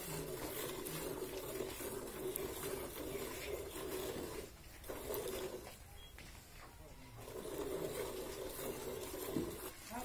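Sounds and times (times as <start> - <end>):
milk squirting into a bucket: 0.0 - 5.9, 7.0 - 10.0.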